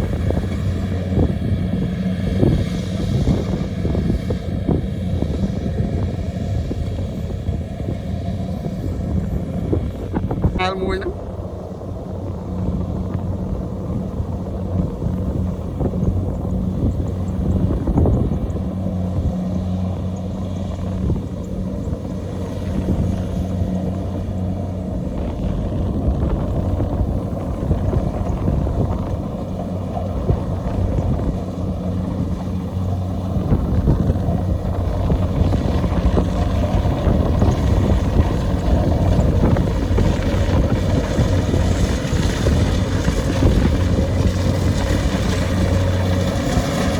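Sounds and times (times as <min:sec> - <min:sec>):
combine harvester engine and machinery: 0:00.0 - 0:46.9.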